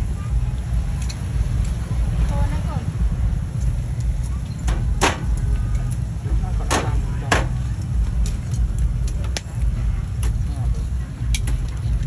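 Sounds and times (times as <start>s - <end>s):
faint background chatter: 0.0s - 12.0s
low street rumble: 0.0s - 12.0s.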